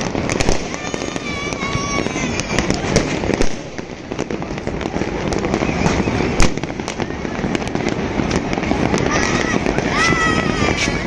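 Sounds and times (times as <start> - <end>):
fireworks crackling and popping: 0.0 - 11.0
sharp firework bangs: 0.0 - 11.0.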